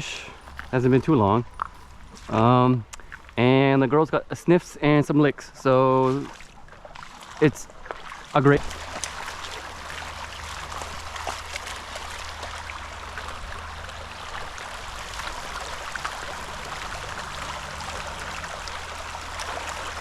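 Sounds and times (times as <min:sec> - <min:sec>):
creek trickling: 0:00.0 - 0:20.0.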